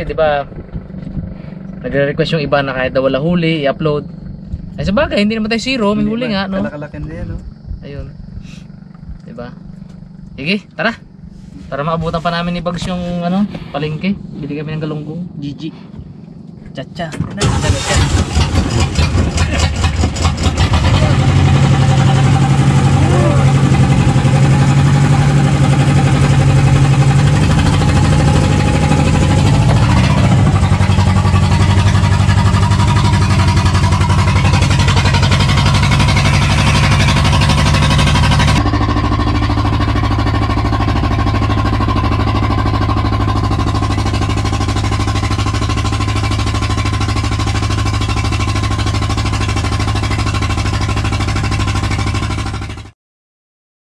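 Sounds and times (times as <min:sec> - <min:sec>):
motorcycle engine running: 0:00.0 - 0:15.0, 0:17.4 - 0:52.9.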